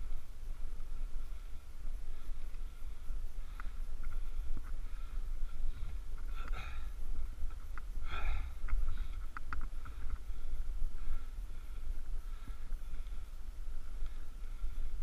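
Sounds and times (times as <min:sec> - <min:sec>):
cyclist breathing hard: 0:00.0 - 0:15.0
wind rumbling on microphone: 0:00.0 - 0:15.0.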